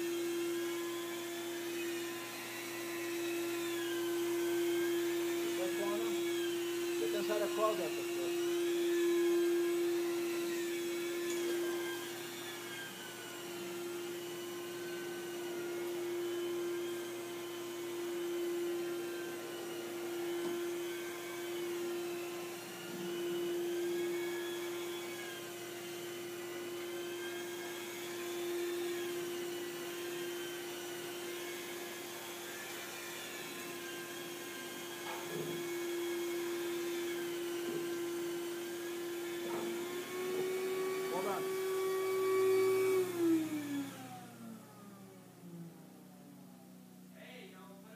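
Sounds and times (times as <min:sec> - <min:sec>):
carpet vacuum humming: 0:00.0 - 0:47.9.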